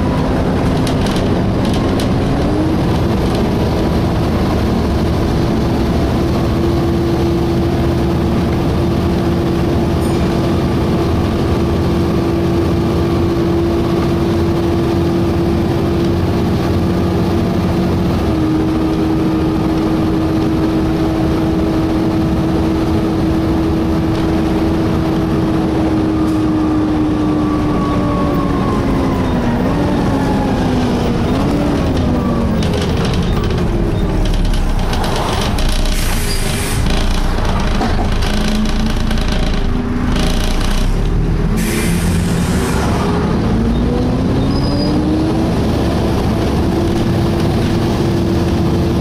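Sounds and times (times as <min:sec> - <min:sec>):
diesel engine: 0:00.0 - 0:49.0
engine cooling fan whining: 0:00.0 - 0:49.0
road noise: 0:00.0 - 0:49.0.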